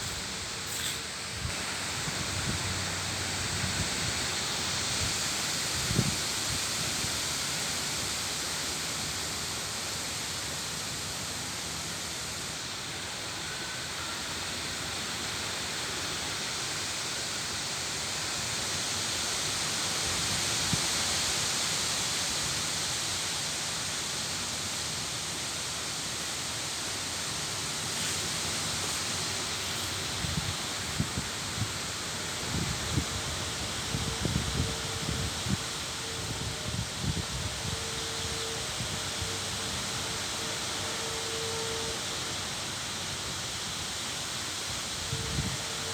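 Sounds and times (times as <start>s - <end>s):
leaves rustling in wind: 0.0s - 45.9s.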